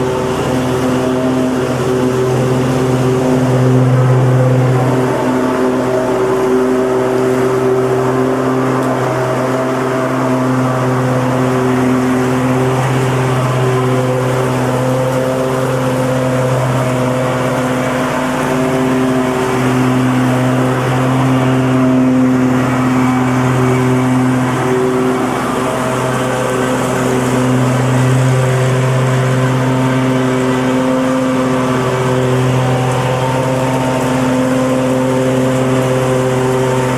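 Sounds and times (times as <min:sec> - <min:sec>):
lawnmower engine running: 0:00.0 - 0:36.9.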